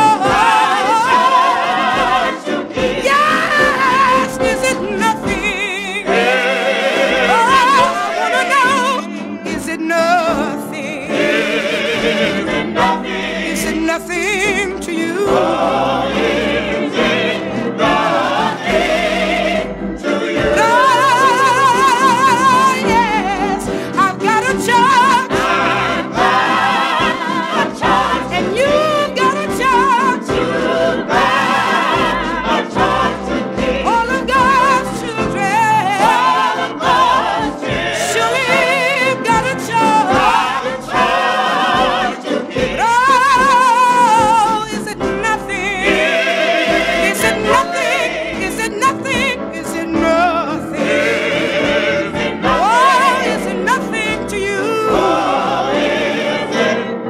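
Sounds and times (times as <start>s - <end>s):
group harmony singing: 0.0s - 57.0s.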